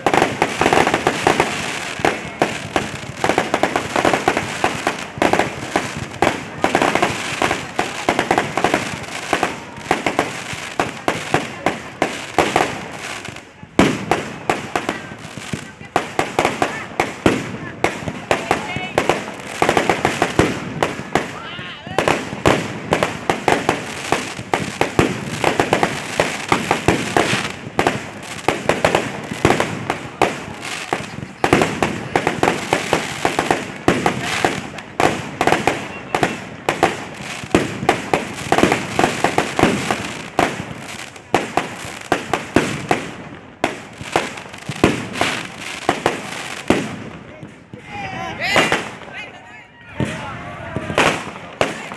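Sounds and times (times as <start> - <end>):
firecrackers banging: 0.0 - 51.9.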